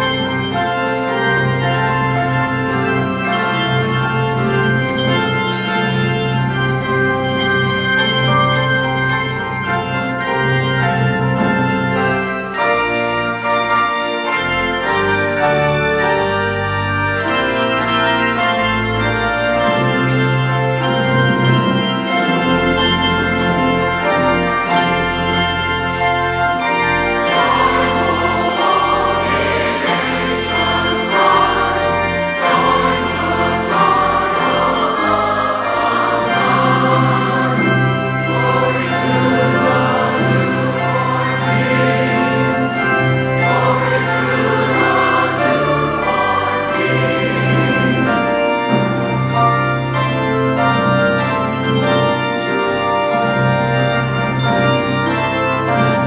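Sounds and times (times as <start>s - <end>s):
organ chords: 0.0s - 56.0s.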